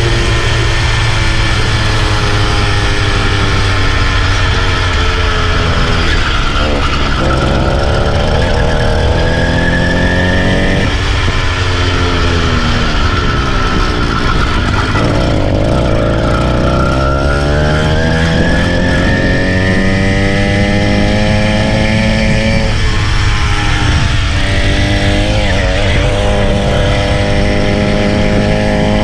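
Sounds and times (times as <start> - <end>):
small engine revving: 0.0 - 29.0.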